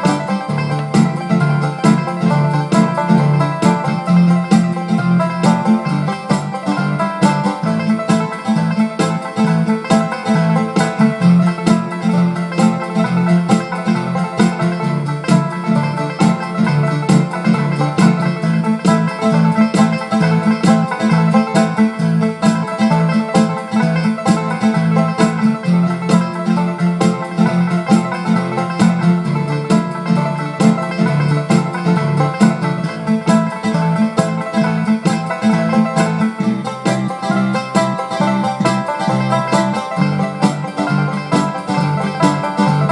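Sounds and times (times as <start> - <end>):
banjo picking: 0.0 - 42.9
instrumental bluegrass song: 0.0 - 42.9.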